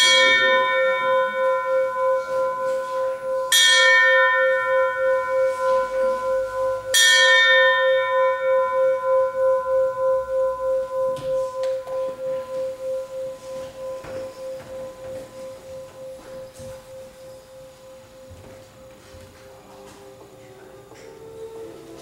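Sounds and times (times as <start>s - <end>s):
small brass bell ringing: 0.0s - 18.3s.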